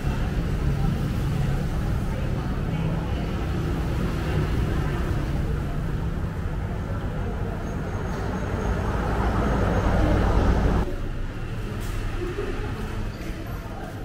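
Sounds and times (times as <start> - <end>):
low rumble of engines and traffic: 0.0 - 14.0.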